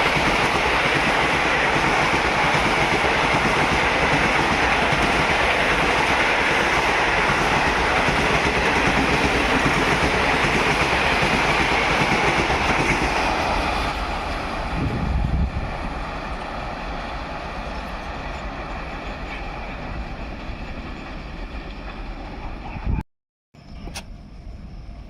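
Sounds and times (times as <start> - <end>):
train wheel and rail noise: 0.0 - 23.0, 23.6 - 25.0.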